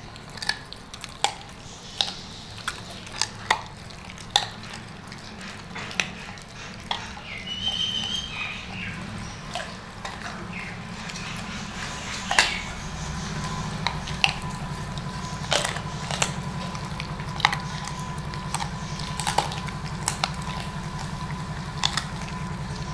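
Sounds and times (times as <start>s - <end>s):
dog crunching bone: 0.0s - 22.9s
steady low hum: 0.0s - 22.9s.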